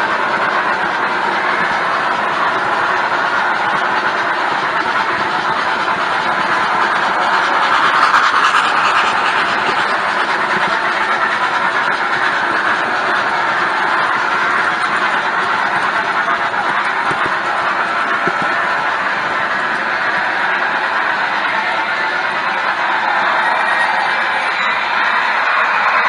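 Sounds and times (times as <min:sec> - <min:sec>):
model train wheels rattling on rails: 0:00.0 - 0:26.0.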